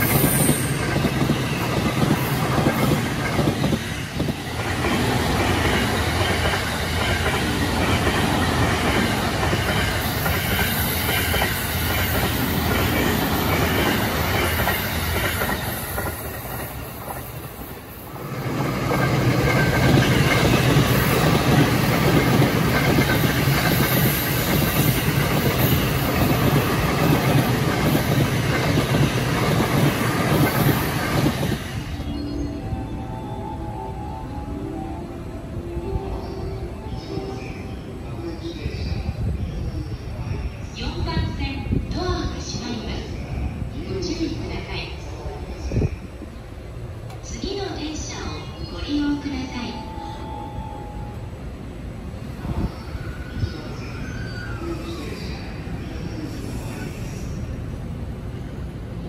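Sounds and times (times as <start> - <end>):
electric trains passing: 0.0 - 59.0.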